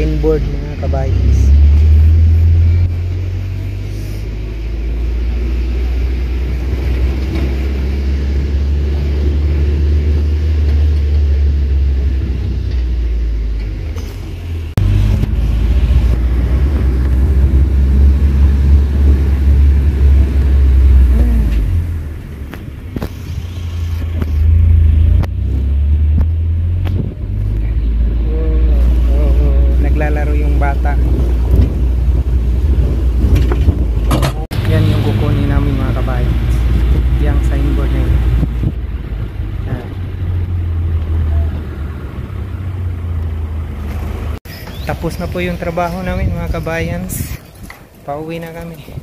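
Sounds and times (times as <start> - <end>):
truck driving rumble: 0.0 - 49.0.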